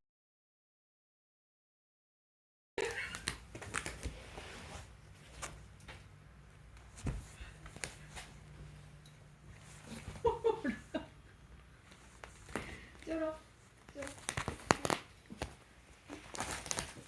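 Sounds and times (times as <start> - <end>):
low steady hum: 2.8 - 17.0.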